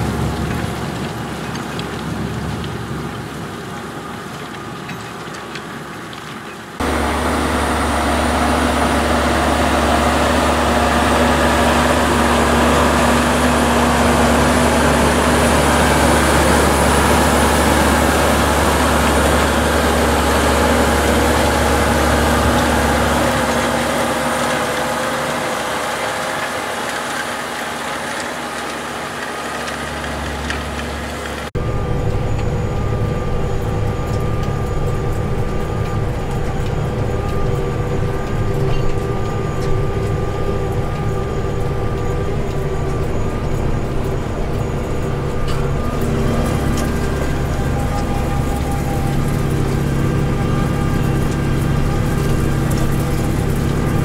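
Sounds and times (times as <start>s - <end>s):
engine drone inside tractor cab: 0.0s - 54.0s
tractor engine running: 0.0s - 54.0s.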